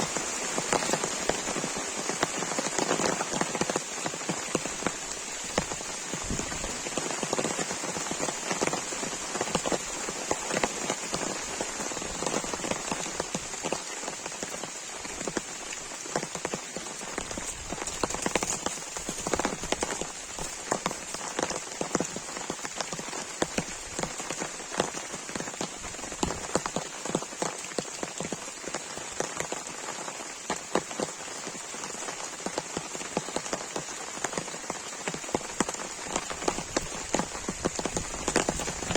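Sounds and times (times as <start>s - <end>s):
heavy rain drops striking surface: 0.0s - 38.9s.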